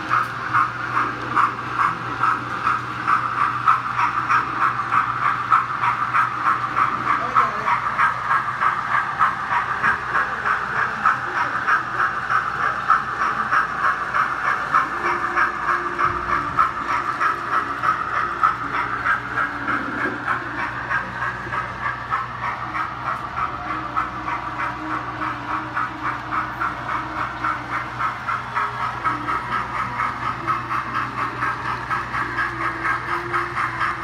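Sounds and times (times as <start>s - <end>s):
model locomotive chuffing through speaker: 0.0s - 34.0s.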